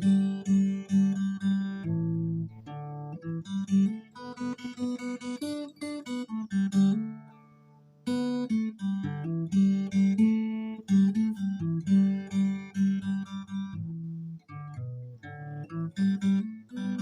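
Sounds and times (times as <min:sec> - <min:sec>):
acoustic guitar plucked notes: 0:00.0 - 0:17.0.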